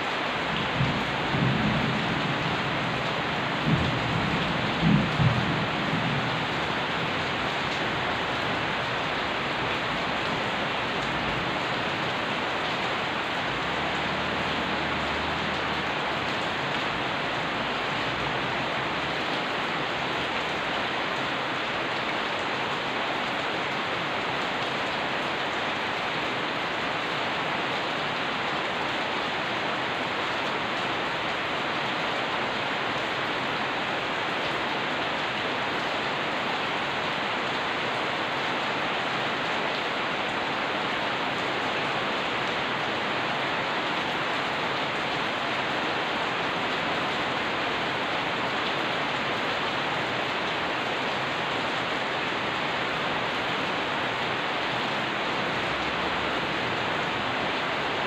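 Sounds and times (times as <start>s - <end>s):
heavy rain hissing: 0.0s - 28.9s, 29.6s - 58.0s.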